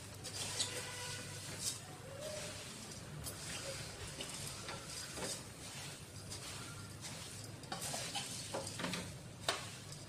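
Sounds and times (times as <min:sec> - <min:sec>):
dry rustle of puffed rice: 0:00.0 - 0:10.0
ladle scraping a pan: 0:00.1 - 0:10.0.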